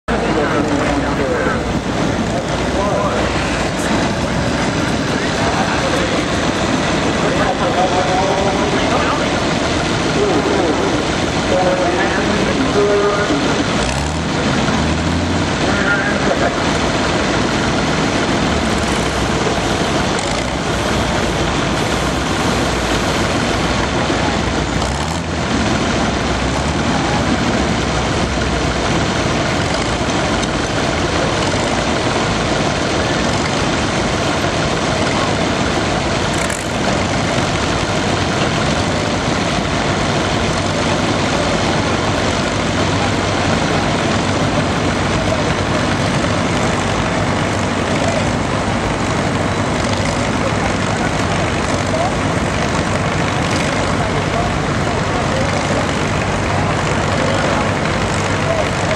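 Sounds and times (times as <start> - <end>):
tractor engine running hard: 0.0 - 58.9.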